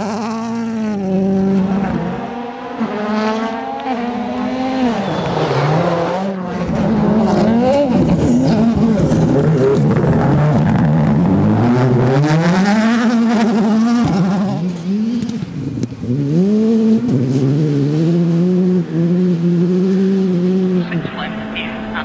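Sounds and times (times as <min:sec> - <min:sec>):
rally car engines at full throttle: 0:00.0 - 0:22.0.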